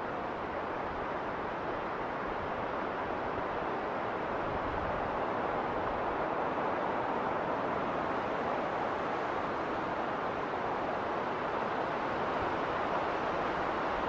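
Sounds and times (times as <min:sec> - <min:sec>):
wind blowing through snowstorm: 0:00.0 - 0:14.0.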